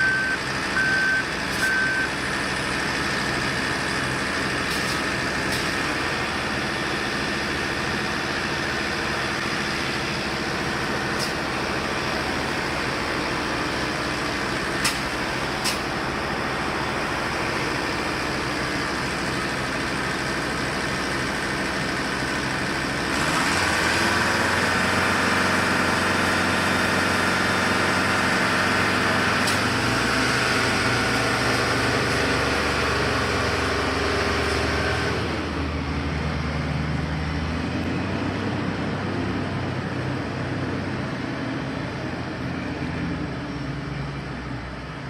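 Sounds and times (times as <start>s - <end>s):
heavy diesel engines running: 0.0s - 45.0s.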